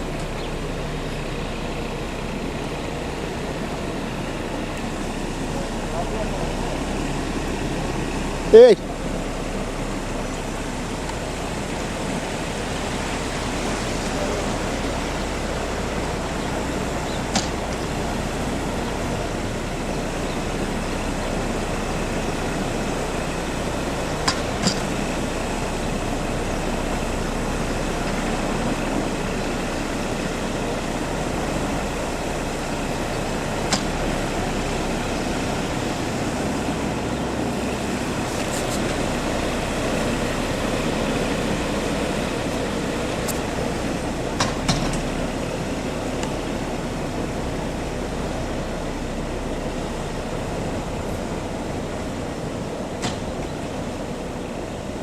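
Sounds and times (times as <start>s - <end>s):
road-work vehicle engines: 0.0s - 55.0s.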